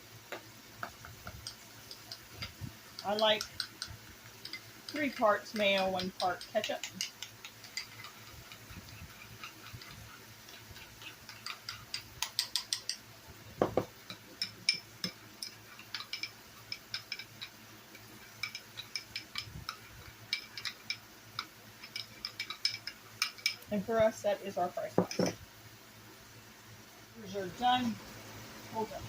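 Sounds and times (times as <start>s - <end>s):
spoon stirring sauce in dish: 0.8s - 13.0s, 13.6s - 24.2s, 24.9s - 25.4s.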